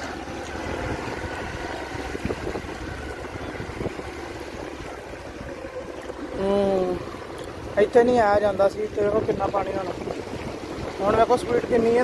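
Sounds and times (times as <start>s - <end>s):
motorcycle engine running: 0.0s - 12.0s
water sloshing and splashing: 0.0s - 12.0s.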